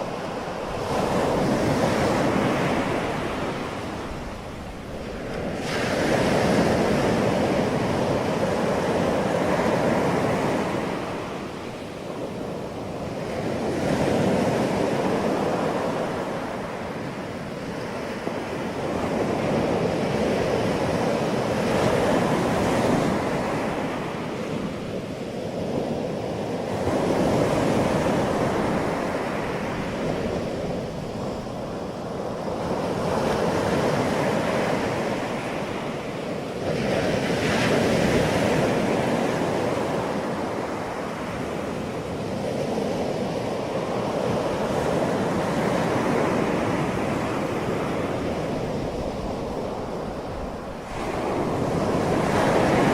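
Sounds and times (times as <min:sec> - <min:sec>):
waves breaking on shore: 0:00.0 - 0:52.9.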